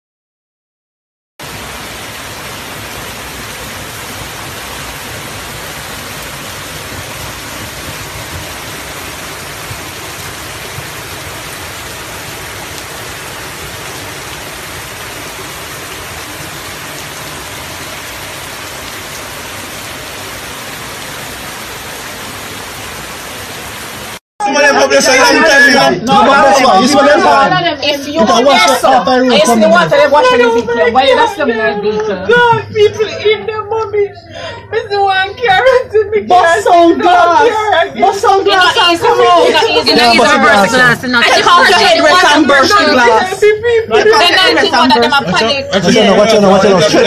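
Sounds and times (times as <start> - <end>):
heavy rain falling: 1.4 - 47.0.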